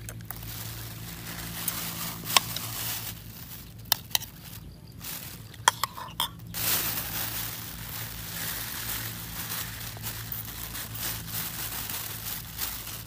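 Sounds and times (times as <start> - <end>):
plastic bag rustling: 0.0 - 13.0
sharp clicks and crinkles: 0.0 - 13.0
steady low hum: 0.0 - 13.0.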